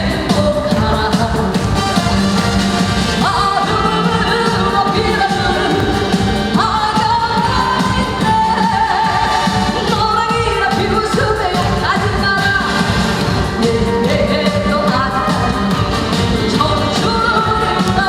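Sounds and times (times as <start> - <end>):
band playing: 0.0 - 18.0
person singing: 3.2 - 18.0.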